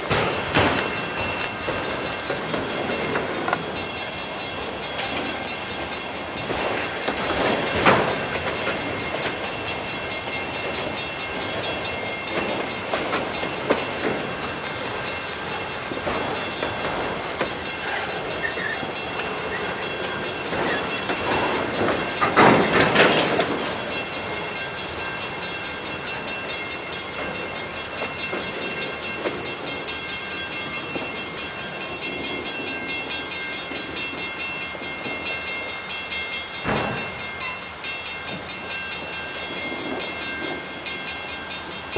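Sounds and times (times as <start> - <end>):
train wheels rolling on rails: 0.0 - 41.9.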